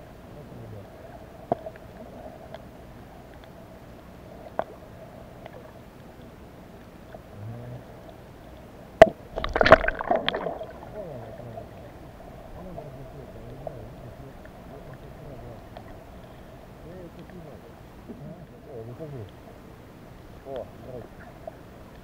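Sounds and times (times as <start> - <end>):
faint underwater hum: 0.0 - 22.0
water sloshing and gurgling: 0.9 - 22.0.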